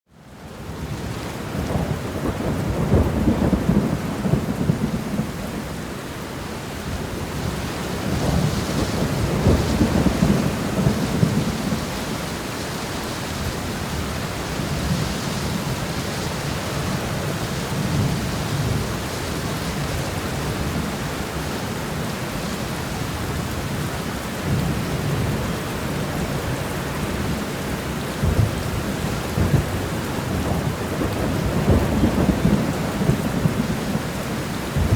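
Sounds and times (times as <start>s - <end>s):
rain pouring: 0.1s - 34.9s.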